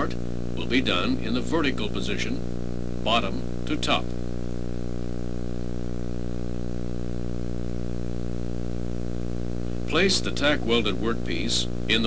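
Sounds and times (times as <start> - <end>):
background hiss: 0.0 - 12.0
electrical hum: 0.0 - 12.0.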